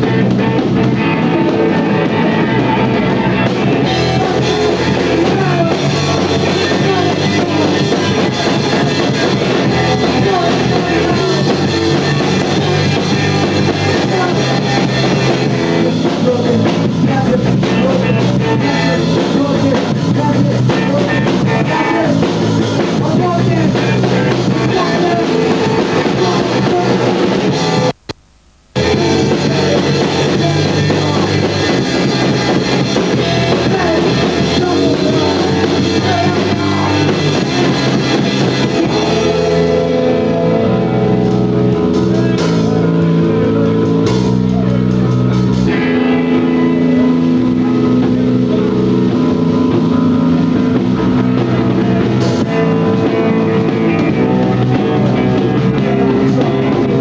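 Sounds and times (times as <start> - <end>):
live rock band playing: 0.0 - 28.0, 28.8 - 57.0.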